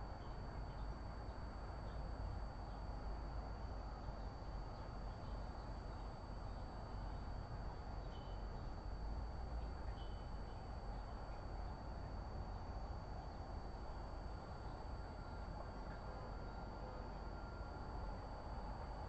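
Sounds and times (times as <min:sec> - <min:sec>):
low rumble and hiss: 0:00.0 - 0:19.0
thin steady high tone: 0:00.0 - 0:19.0.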